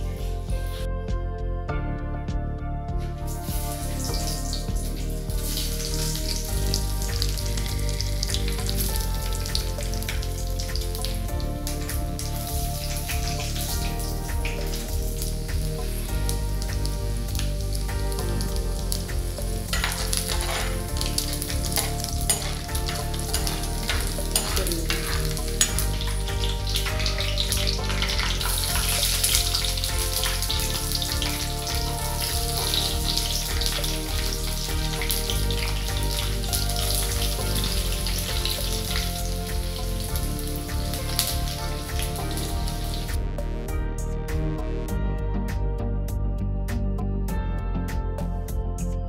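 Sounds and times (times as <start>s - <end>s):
leaves frying in oil: 3.3s - 43.2s.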